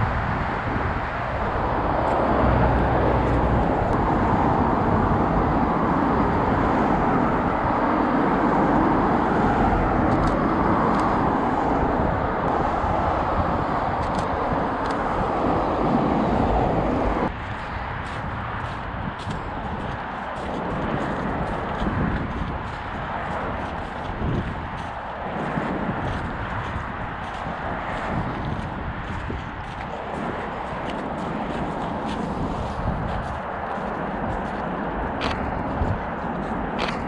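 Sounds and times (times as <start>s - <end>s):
road traffic rushing: 0.0s - 37.0s.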